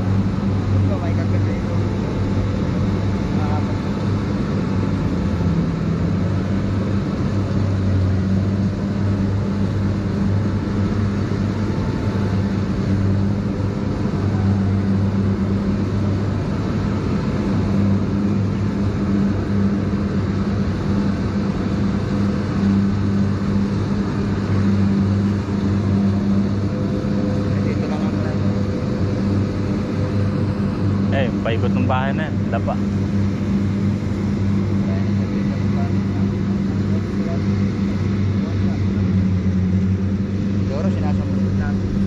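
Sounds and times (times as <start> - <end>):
engine droning steadily: 0.0 - 42.0.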